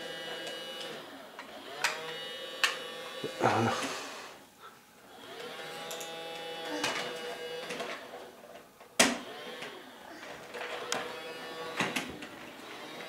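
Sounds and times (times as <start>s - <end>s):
small vacuum motor whirring: 0.0s - 4.4s, 5.1s - 8.3s, 9.2s - 13.0s.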